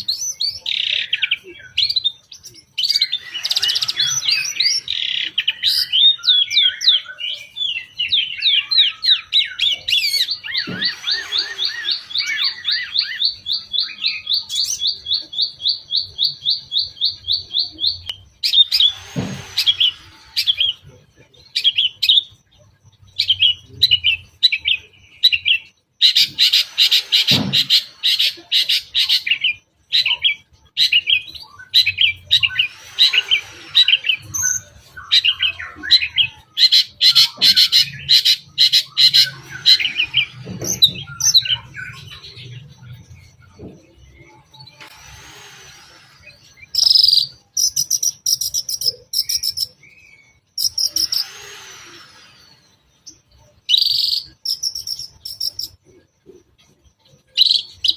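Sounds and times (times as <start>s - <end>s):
shrike singing: 0.0s - 56.0s.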